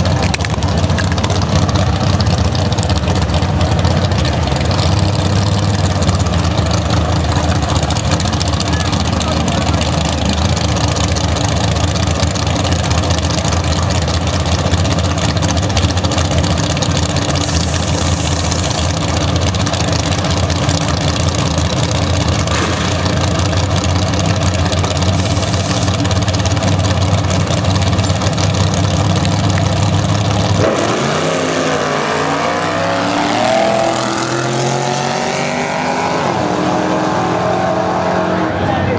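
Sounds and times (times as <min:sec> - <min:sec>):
drag racing engines rumbling: 0:00.0 - 0:38.9
engines accelerating hard: 0:00.0 - 0:38.9.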